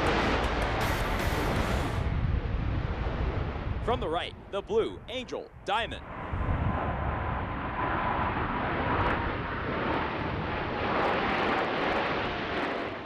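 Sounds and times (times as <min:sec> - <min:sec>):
faint jet engine whine: 0:00.0 - 0:13.0
jets flying past roaring: 0:00.0 - 0:13.0.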